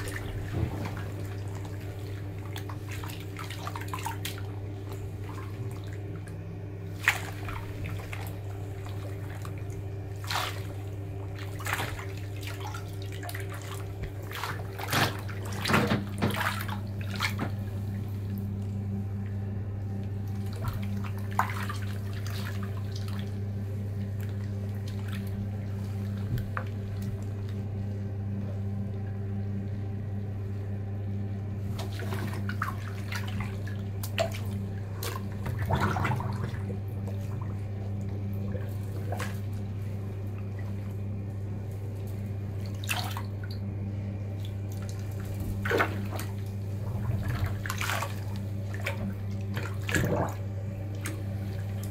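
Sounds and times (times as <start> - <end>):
bathwater sloshing and splashing: 0.0 - 51.9
steady low hum: 0.0 - 51.9.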